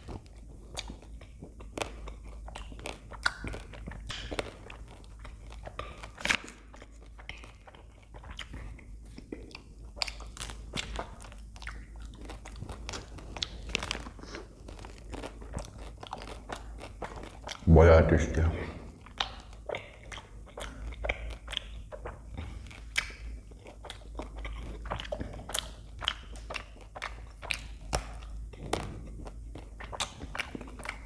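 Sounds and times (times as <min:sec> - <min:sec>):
crunching chocolate ice cream bar: 0:00.0 - 0:31.0.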